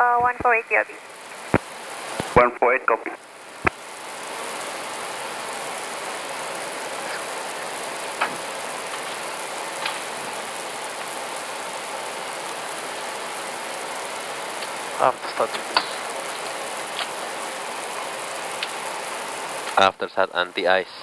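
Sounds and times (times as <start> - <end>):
cockpit engine hiss: 0.0 - 21.0.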